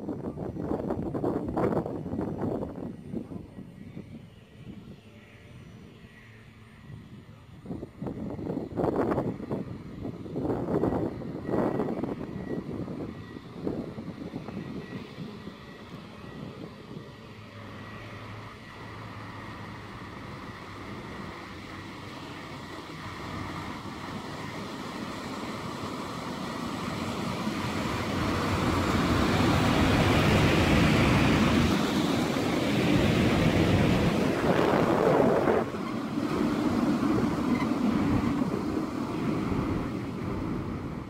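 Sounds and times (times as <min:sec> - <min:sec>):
train wheels rumbling on rails: 0:08.0 - 0:41.0.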